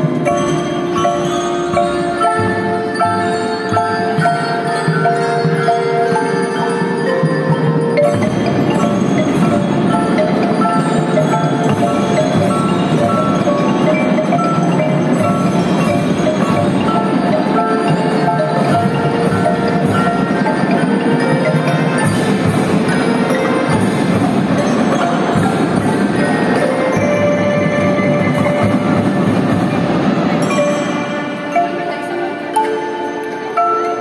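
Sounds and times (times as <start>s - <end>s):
band and percussion music: 0.0s - 34.0s
marimbas and xylophones: 0.0s - 34.0s.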